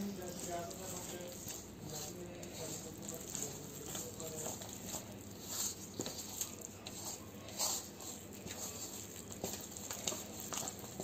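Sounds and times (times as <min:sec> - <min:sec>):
spatula scraping dough in bowl: 0:00.0 - 0:11.0.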